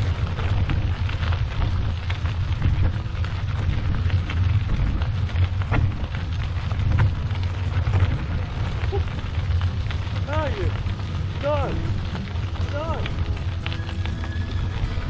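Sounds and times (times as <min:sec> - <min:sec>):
tyres rolling over gravel: 0:00.0 - 0:15.0.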